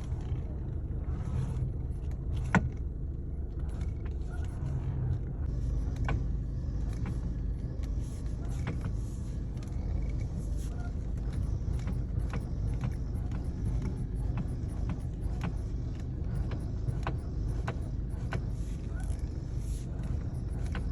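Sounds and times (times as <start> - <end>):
car driving rumble: 0.0 - 20.9.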